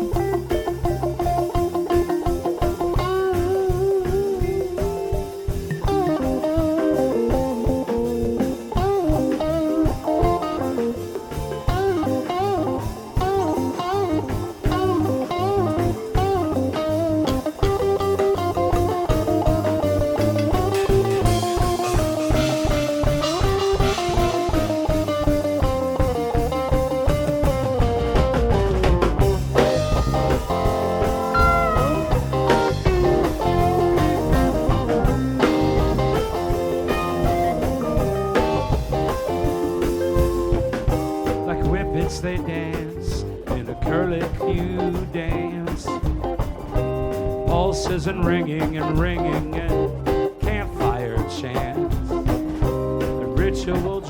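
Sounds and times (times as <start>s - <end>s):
bass guitar: 0.0s - 54.0s
drum kit: 0.0s - 54.0s
lead electric guitar bent notes: 0.0s - 54.0s.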